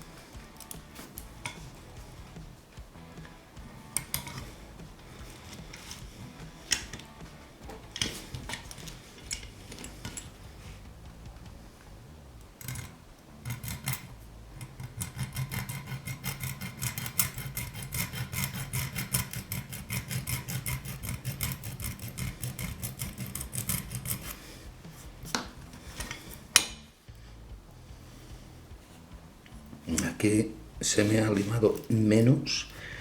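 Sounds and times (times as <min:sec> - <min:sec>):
hand file rasping on metal: 0:00.0 - 0:32.1.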